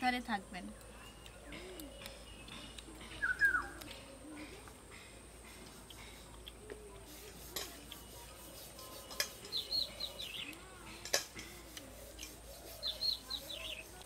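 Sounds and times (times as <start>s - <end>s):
small bird chirping: 0.4s - 4.5s, 5.8s - 11.0s, 11.7s - 14.0s.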